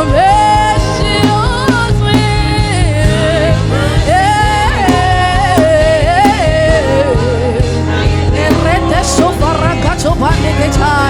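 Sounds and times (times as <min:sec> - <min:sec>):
bass: 0:00.0 - 0:11.0
person singing wordless line: 0:00.0 - 0:11.0
steady drum beat: 0:00.0 - 0:11.0.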